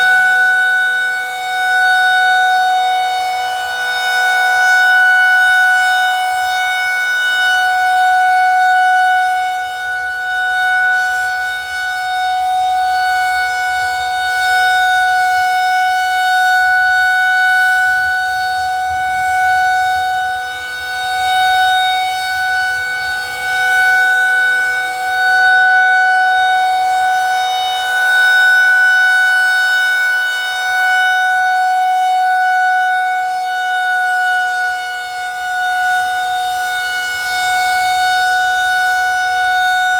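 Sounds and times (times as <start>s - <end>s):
rotating tornado siren: 0.0s - 39.9s.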